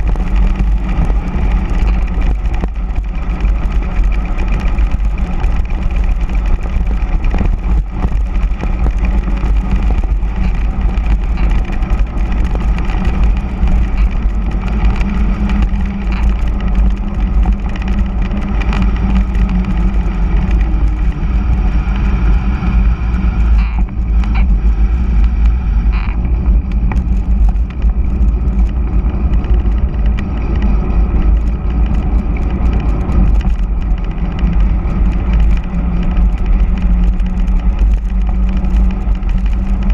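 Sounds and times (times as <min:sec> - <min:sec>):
tyres humming on asphalt: 0:00.0 - 0:39.9
wind buffeting microphone: 0:00.0 - 0:39.9.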